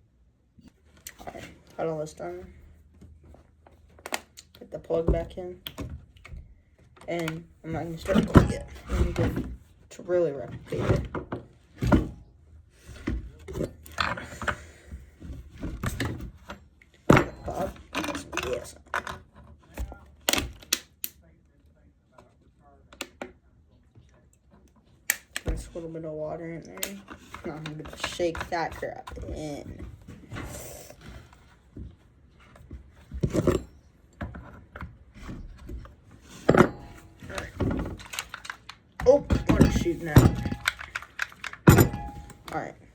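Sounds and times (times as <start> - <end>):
handling knocks and scrapes: 0.6 - 20.6, 24.5 - 42.9.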